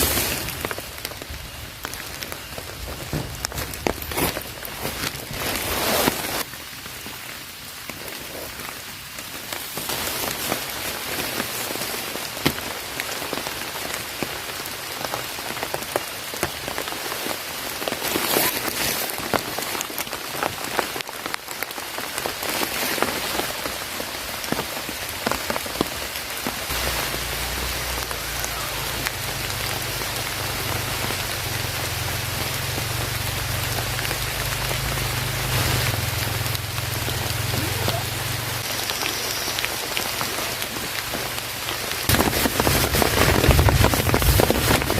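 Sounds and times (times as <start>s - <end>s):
heavy rain: 0.0s - 44.9s
raindrops ticking on surface: 0.0s - 44.9s.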